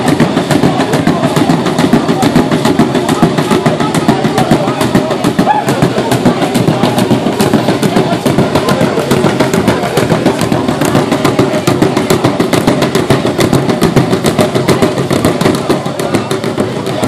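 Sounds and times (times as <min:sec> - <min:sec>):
large drum beaten rapidly: 0:00.0 - 0:17.0.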